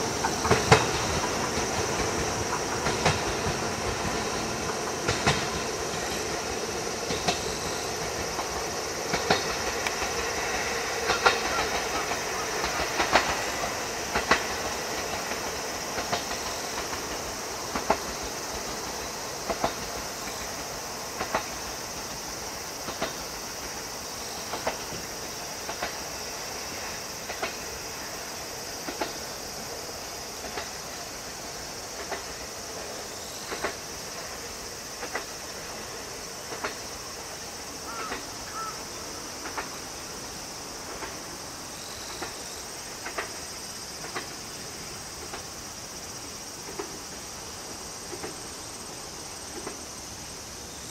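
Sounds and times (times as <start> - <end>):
train wheels clacking over rail joints: 0.0 - 50.1
faint steady hiss: 0.0 - 50.9.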